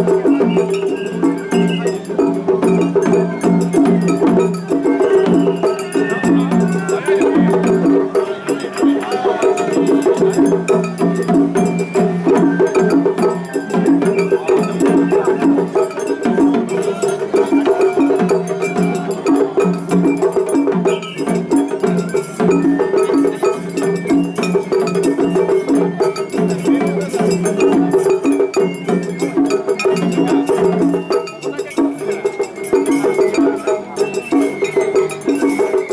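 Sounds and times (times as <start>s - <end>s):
bamboo flute: 0.0s - 35.9s
drums: 0.0s - 35.9s
festival ensemble playing: 0.0s - 35.9s.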